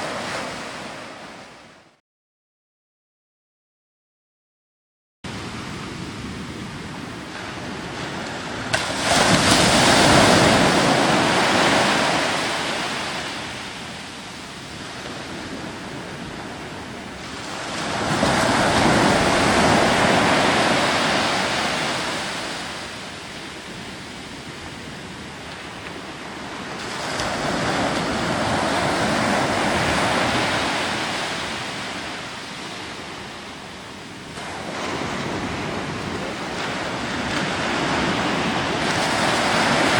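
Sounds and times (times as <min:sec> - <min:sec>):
ocean waves breaking: 0:00.0 - 0:01.9, 0:05.3 - 0:39.9.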